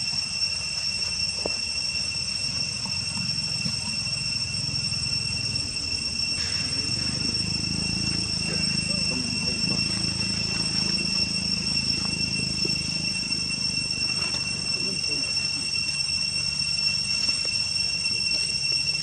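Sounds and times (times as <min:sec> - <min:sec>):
high-pitched insect drone: 0:00.0 - 0:19.0
low unsteady murmur: 0:01.0 - 0:18.9.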